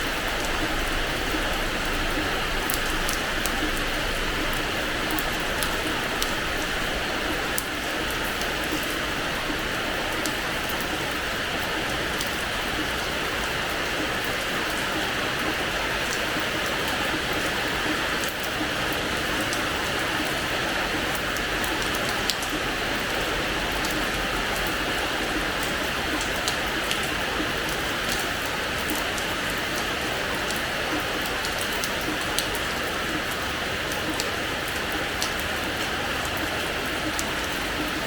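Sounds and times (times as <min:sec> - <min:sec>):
rain on a hard floor: 0:00.0 - 0:38.0.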